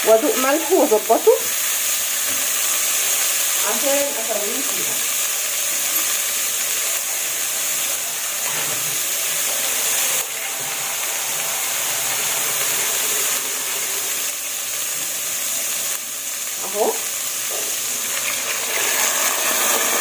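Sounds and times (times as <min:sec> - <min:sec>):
lentils sizzling in oil: 0:00.0 - 0:20.0
steam hissing: 0:00.0 - 0:20.0.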